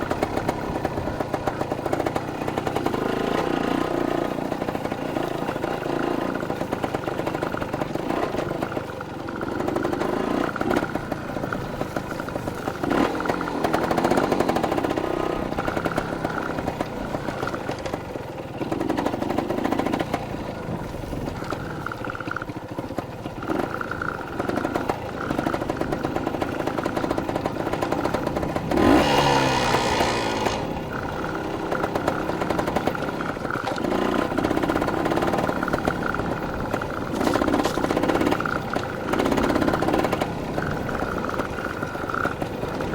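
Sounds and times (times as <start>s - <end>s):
dirt bike engine revving: 0.0s - 7.0s, 9.3s - 18.0s, 23.4s - 42.9s.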